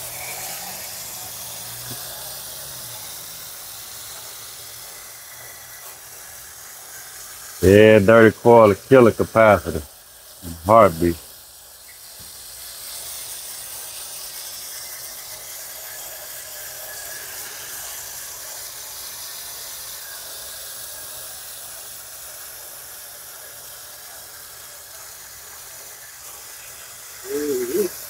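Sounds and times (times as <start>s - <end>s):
hose water spraying on metal coil: 0.0s - 28.0s.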